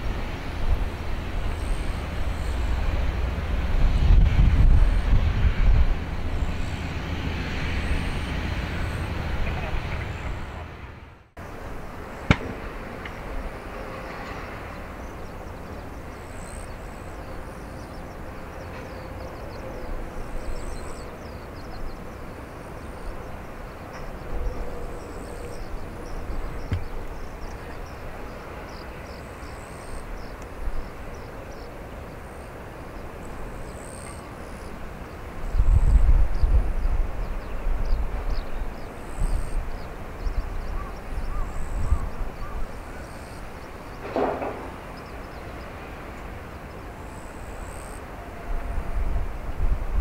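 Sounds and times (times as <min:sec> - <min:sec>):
jet engines rumbling at idle: 0:00.0 - 0:50.0.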